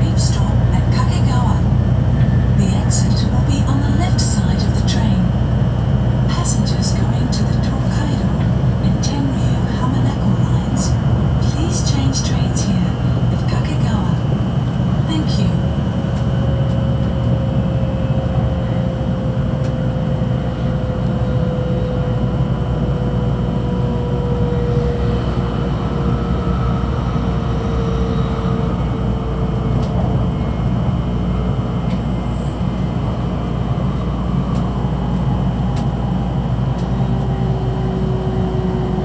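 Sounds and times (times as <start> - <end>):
train running rumble: 0.0 - 39.0.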